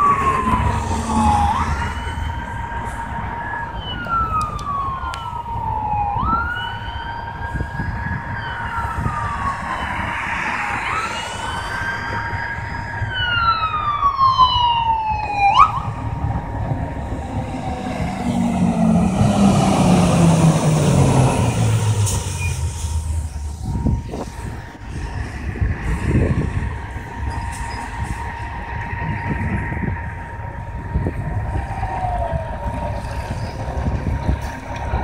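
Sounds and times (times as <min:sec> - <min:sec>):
diesel engine passing: 0:00.0 - 0:35.0
fire engine siren wailing: 0:00.0 - 0:35.0.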